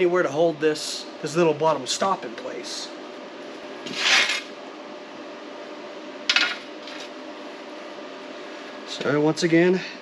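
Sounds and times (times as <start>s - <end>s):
low shop hum: 0.0s - 10.0s.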